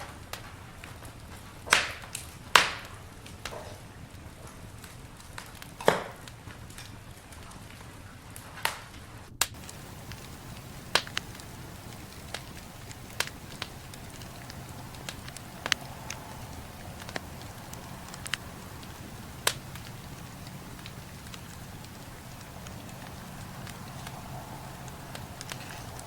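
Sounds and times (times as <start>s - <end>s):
campfire crackling and popping: 0.0s - 26.0s
campfire hiss: 0.0s - 26.0s.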